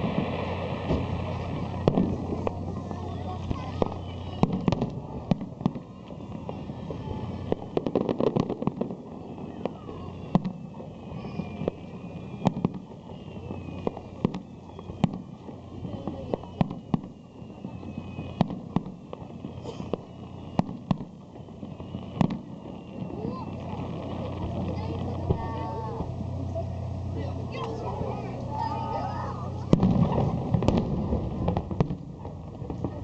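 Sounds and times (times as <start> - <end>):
falling firework whistles: 0.0 - 33.0
fireworks bursting with bangs: 0.0 - 33.0.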